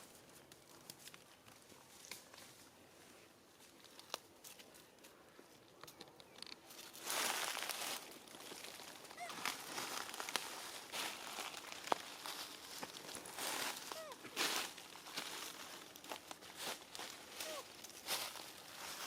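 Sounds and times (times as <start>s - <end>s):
crinkling and rustling: 3.6s - 19.0s.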